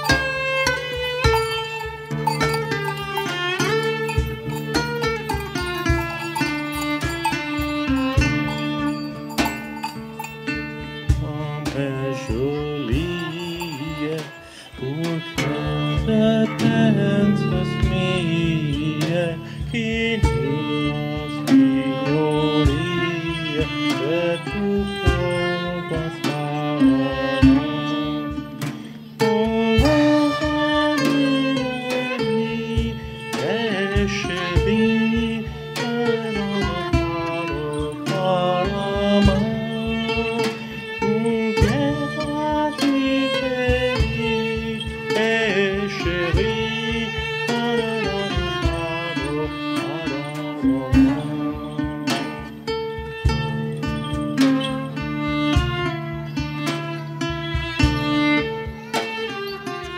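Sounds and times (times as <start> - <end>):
guitar: 0.0 - 59.9
low percussion beat: 0.0 - 59.9
sharp percussive strike: 0.0 - 59.9
violin sliding melody: 0.0 - 59.9.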